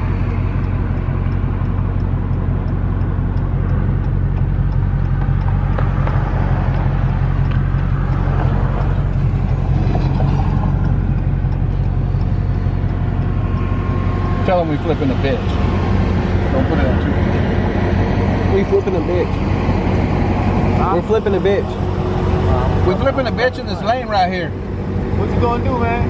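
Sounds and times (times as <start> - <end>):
car engine drone: 0.0 - 26.0
road noise: 0.0 - 26.0.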